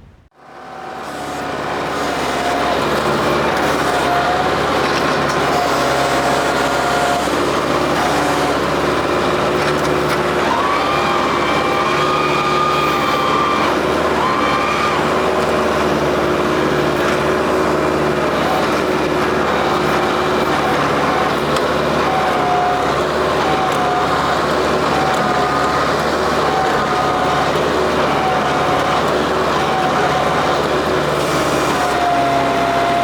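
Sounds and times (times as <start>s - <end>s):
tractor diesel engine running: 0.2s - 33.0s.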